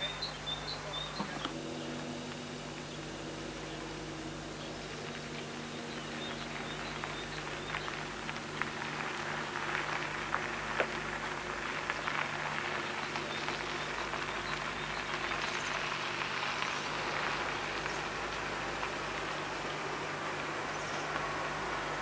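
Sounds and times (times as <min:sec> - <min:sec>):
coach engine and tyres: 0:00.0 - 0:22.0.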